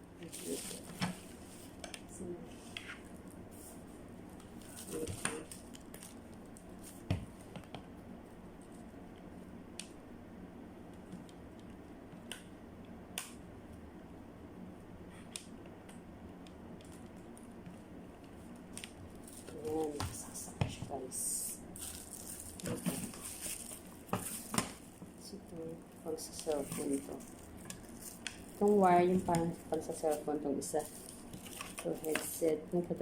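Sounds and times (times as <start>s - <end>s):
faint hiss and hum: 0.0s - 33.0s.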